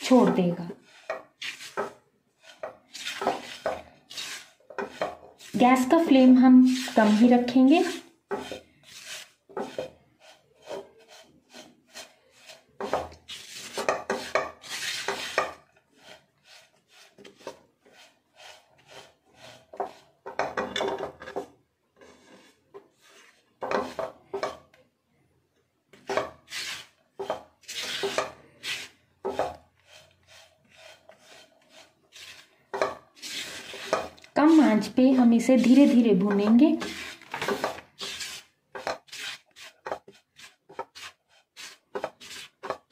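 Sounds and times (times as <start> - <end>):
spatula scraping flour in pan: 0.0 - 24.7, 25.9 - 42.9.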